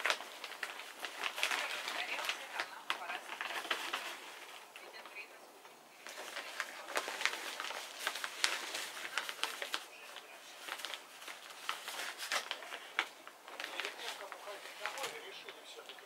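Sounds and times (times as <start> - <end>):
plastic bag crinkling: 0.0 - 5.3, 6.0 - 16.0.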